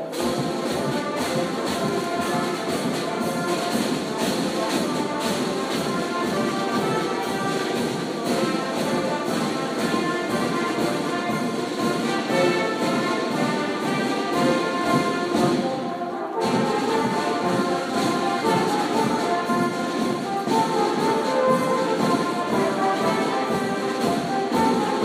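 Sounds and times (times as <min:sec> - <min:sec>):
brass melody: 0:00.0 - 0:25.0
marching drum beat: 0:00.0 - 0:25.0.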